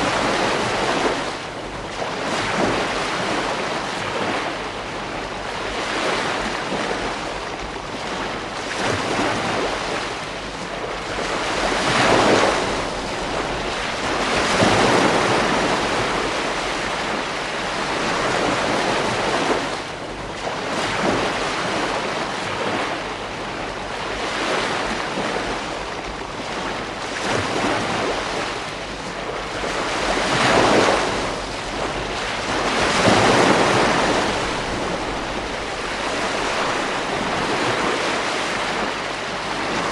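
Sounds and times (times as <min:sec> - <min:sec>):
ocean waves breaking: 0:00.0 - 0:39.9
wind on microphone: 0:00.0 - 0:39.9.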